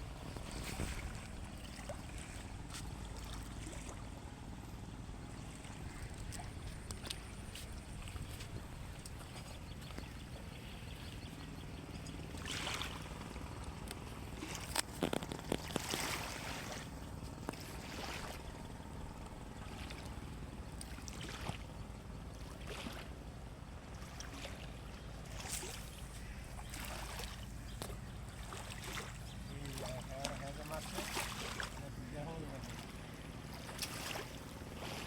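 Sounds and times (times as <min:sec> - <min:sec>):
steady low hum: 0:00.0 - 0:35.0
water splashing and swishing: 0:00.0 - 0:35.0.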